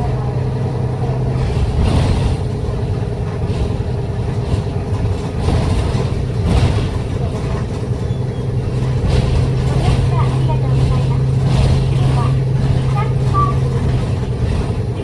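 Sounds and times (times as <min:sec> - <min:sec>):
bus engine hum and road noise: 0:00.0 - 0:15.0.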